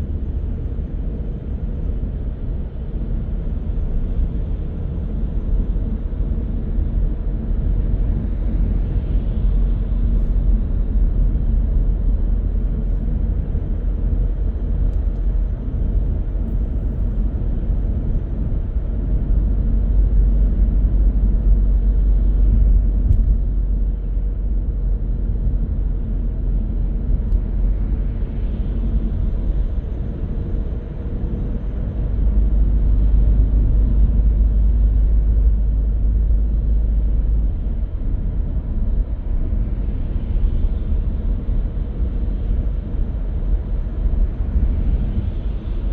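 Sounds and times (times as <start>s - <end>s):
car tyres and engine rumble: 0.0s - 45.9s.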